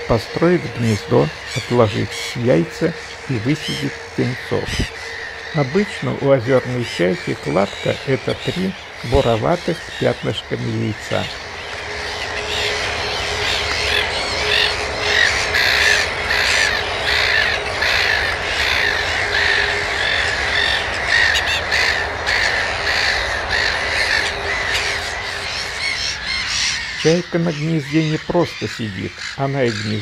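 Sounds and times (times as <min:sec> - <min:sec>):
gulls calling: 0:00.0 - 0:30.0.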